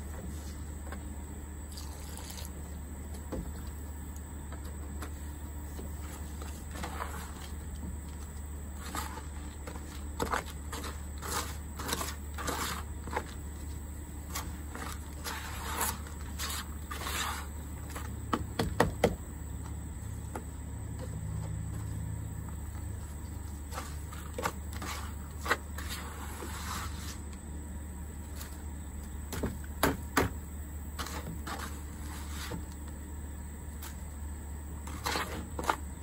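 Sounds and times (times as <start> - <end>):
buckets and soil scraping: 0.0 - 18.3, 19.6 - 30.2, 30.8 - 36.0
steady low hum: 0.0 - 36.0.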